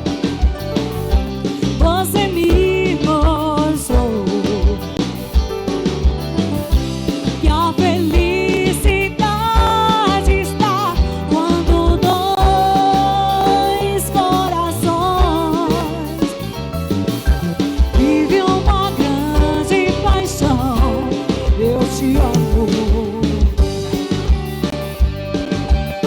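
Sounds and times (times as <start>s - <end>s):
drum and bass beat: 0.0s - 26.0s.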